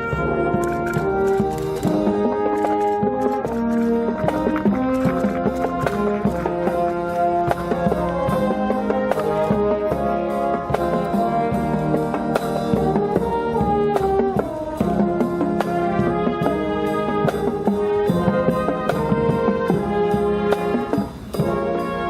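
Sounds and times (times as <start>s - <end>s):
brass chords: 0.0s - 22.0s
drum beats: 0.0s - 22.0s.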